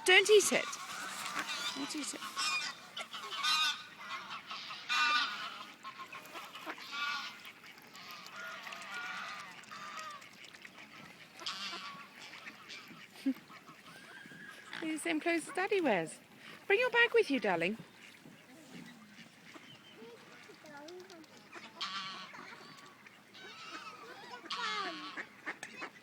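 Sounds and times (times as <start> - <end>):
waterfowl calling: 0.0 - 26.0.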